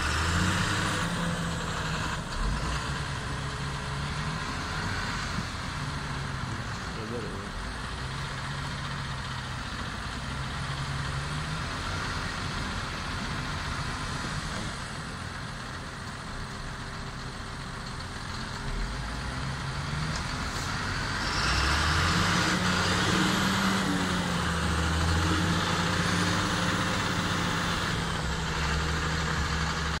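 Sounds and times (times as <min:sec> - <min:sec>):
tractor diesel engine: 0:00.0 - 0:30.0
truck diesel engine: 0:00.0 - 0:30.0.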